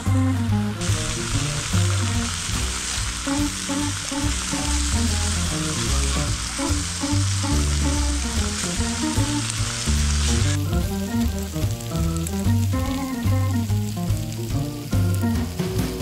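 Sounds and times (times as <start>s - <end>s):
background music: 0.0s - 16.0s
pork sizzling on a grill: 0.0s - 16.0s.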